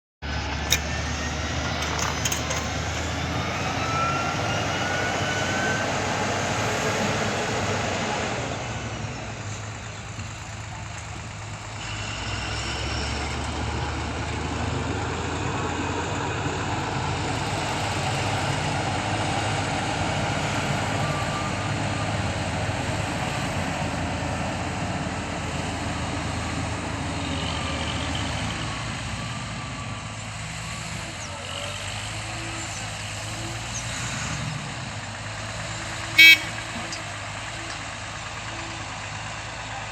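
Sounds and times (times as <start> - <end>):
trucks and road traffic rumble: 0.2 - 39.9.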